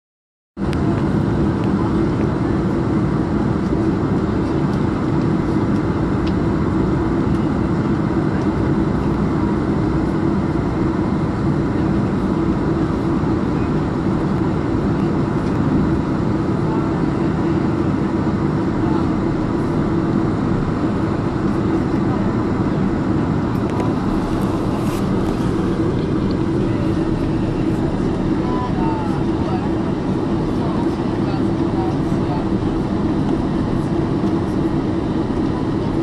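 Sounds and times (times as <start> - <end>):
airplane cabin drone: 0.6 - 36.0.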